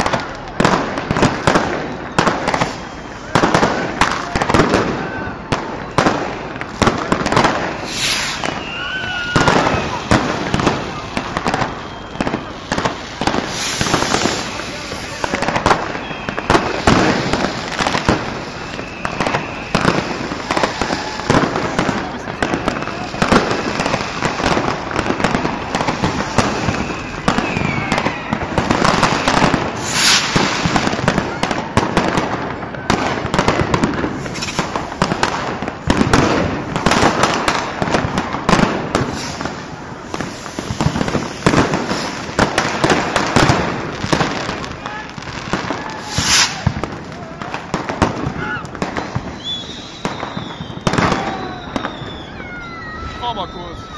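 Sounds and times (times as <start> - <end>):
distant fireworks crackling: 0.0 - 53.9
loud firework bangs: 0.0 - 53.9
rockets bursting: 0.0 - 53.9.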